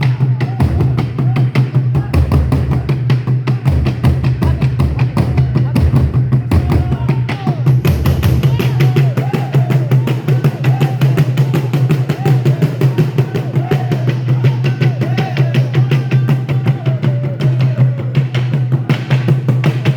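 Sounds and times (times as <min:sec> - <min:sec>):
deep drum boom: 0:00.0 - 0:19.9
drums in fast rhythm: 0:00.0 - 0:19.9.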